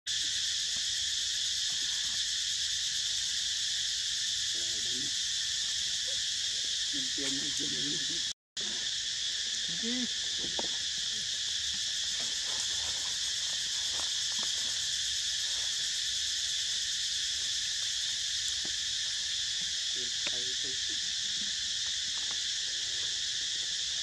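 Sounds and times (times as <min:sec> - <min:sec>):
insects chorus: 0:00.1 - 0:24.0.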